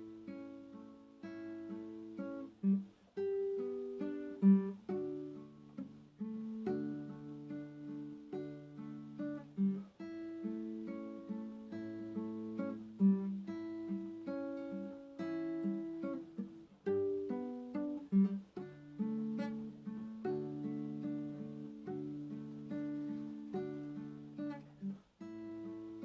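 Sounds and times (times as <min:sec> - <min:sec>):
slow acoustic guitar music: 0:00.0 - 0:26.0.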